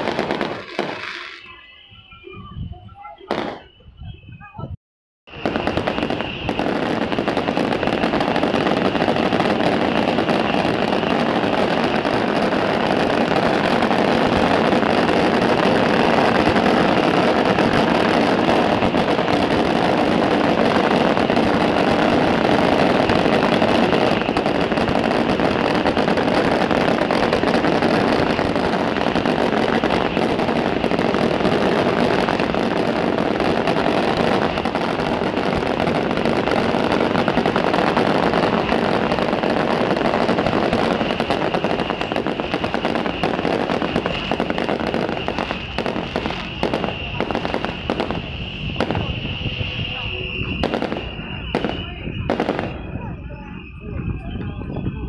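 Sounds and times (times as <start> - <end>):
firecrackers crackling: 0.0 - 4.6, 5.3 - 55.0.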